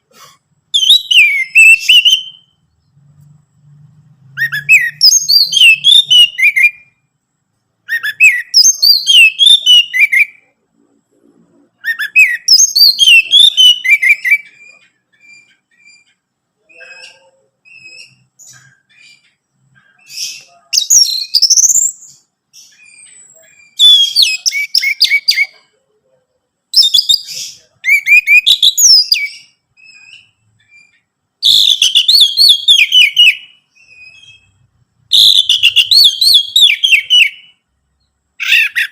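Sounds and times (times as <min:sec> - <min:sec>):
bird singing varied phrases: 0:00.6 - 0:07.2, 0:07.8 - 0:10.6, 0:11.7 - 0:25.9, 0:26.6 - 0:38.9.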